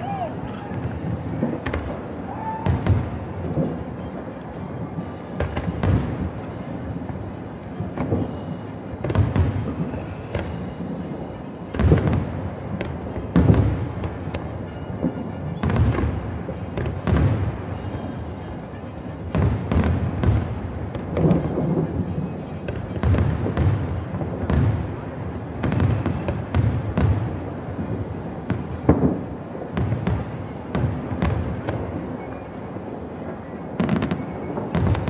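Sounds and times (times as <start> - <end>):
fireworks booming: 0.0 - 35.0.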